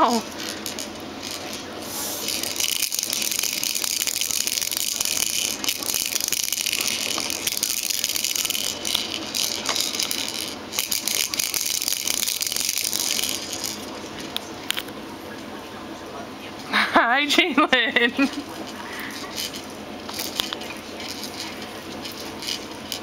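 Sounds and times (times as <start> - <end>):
plastic beads rattling in spinner: 0.0 - 14.9, 18.1 - 23.0.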